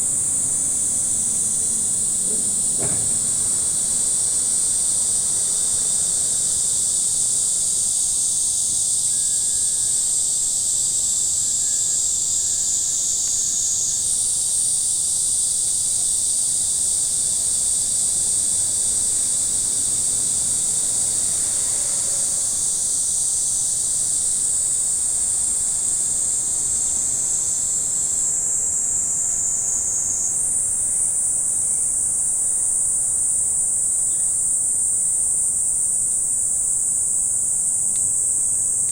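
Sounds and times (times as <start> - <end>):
chorus of insects singing: 0.0 - 38.9.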